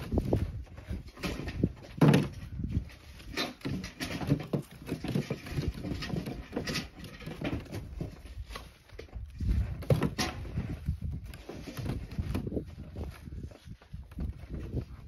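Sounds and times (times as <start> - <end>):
firewood logs knocking and thumping: 0.0 - 15.0.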